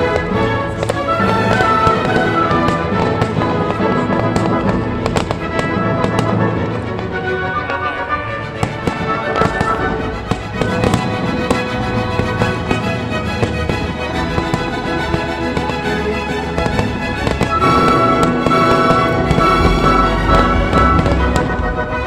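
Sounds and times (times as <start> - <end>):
fireworks banging and crackling: 0.0 - 22.0
music: 0.0 - 22.0.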